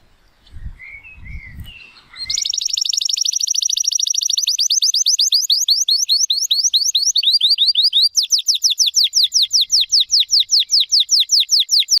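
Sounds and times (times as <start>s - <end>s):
canary singing: 0.8s - 12.0s.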